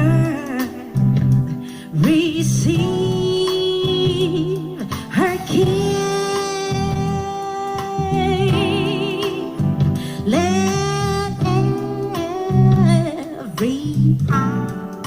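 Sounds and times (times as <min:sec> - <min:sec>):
person singing with vibrato: 0:00.0 - 0:14.3
band chords and bass line: 0:00.0 - 0:15.0.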